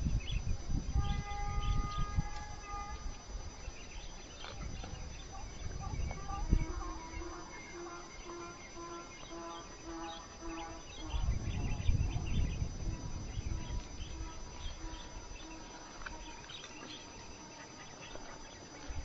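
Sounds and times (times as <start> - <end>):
low rumble on microphone: 0.0 - 19.0
small birds chirping: 0.0 - 19.0.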